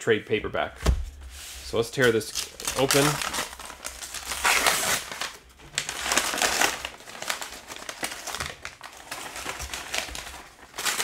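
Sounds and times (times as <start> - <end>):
paper wrapping tearing and crumpling: 2.0 - 11.0.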